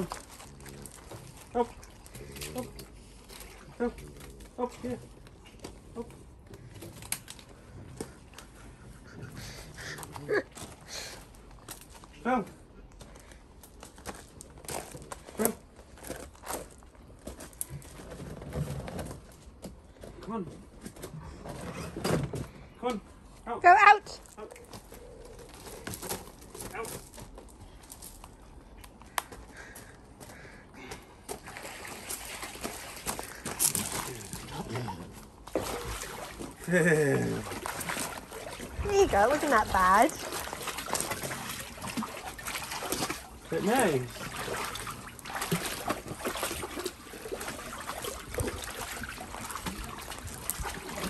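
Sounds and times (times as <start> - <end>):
water sloshing and splashing: 0.0 - 23.4, 24.2 - 51.0.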